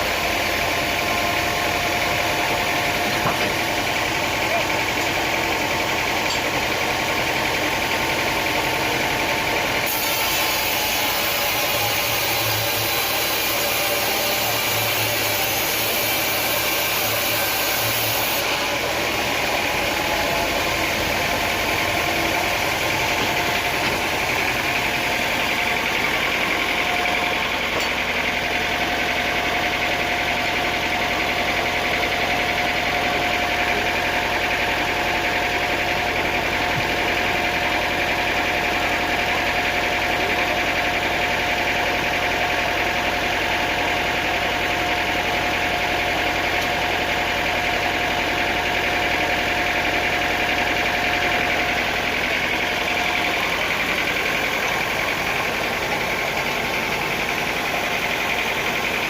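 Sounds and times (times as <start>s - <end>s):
sawmill machinery drone: 0.0s - 59.0s.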